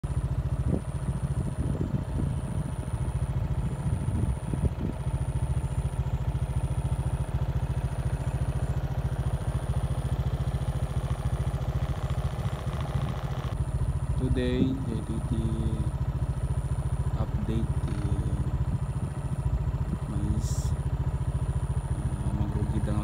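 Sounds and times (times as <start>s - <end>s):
engine bursts: 0.0s - 23.0s
motorcycle engine idling: 0.0s - 23.0s.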